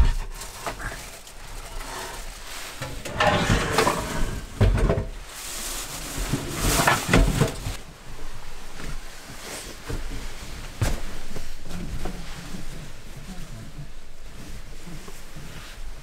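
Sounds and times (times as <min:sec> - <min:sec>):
things being moved: 0:00.0 - 0:16.0.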